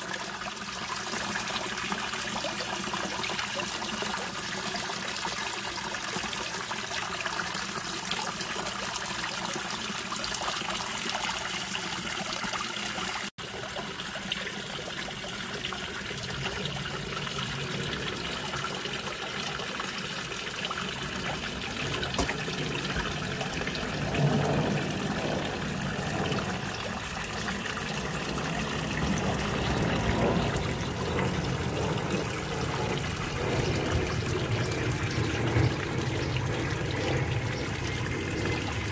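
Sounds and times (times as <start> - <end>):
waterfall splashing into pond: 0.0 - 38.9.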